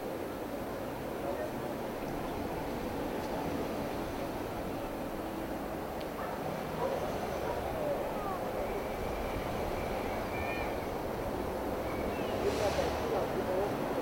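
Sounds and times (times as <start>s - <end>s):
murmur of voices: 1.1s - 14.0s
cars rolling past: 1.4s - 14.0s.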